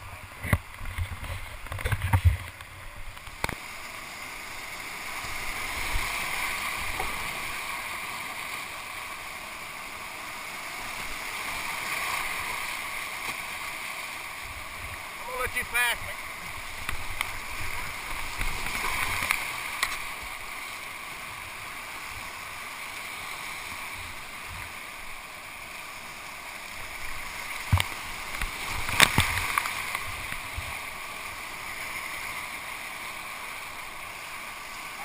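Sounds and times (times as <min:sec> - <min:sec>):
rapids rushing and splashing: 0:00.0 - 0:35.0.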